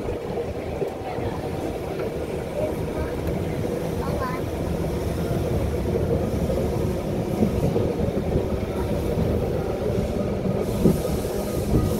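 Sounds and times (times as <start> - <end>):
tram rumbling on track: 0.0 - 11.9.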